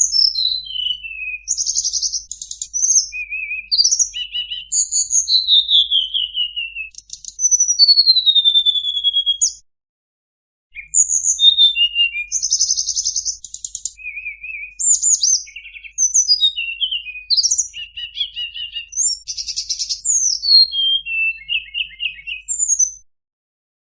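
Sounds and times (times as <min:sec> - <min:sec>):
recorded bird song: 0:00.0 - 0:09.6, 0:10.7 - 0:23.1.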